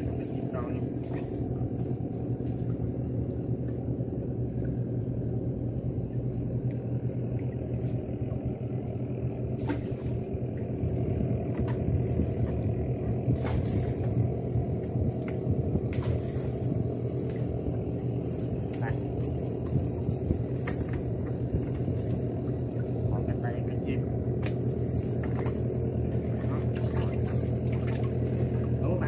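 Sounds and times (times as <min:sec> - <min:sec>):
boat motor idling: 0:00.0 - 0:29.0.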